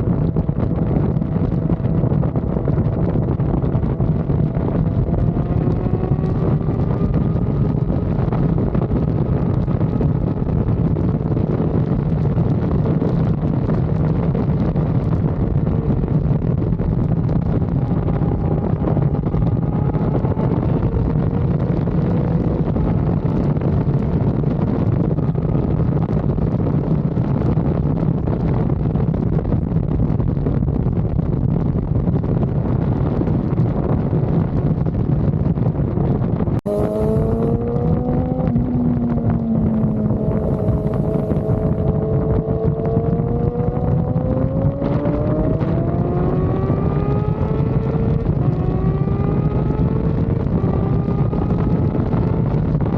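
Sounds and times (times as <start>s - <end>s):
motorcycle engine running: 0.0s - 27.2s, 34.5s - 52.9s
wind noise on microphone: 0.0s - 52.9s.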